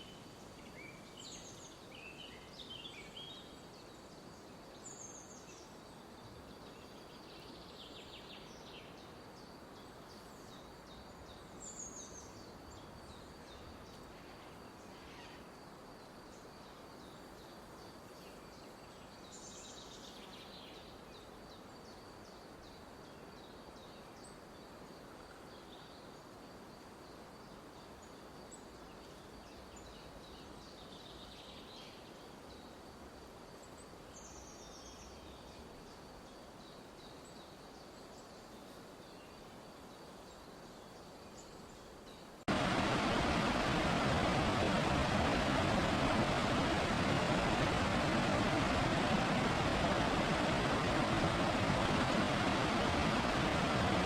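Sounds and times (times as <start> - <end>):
faint background hiss: 0.0 - 54.0.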